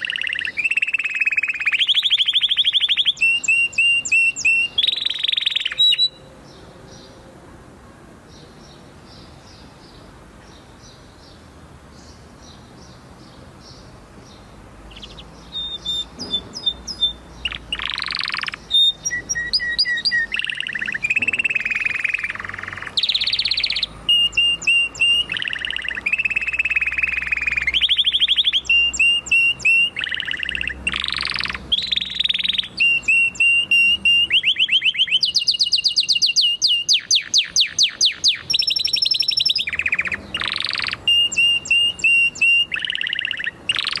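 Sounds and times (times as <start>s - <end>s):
canary singing: 0.0s - 7.1s, 13.6s - 44.0s.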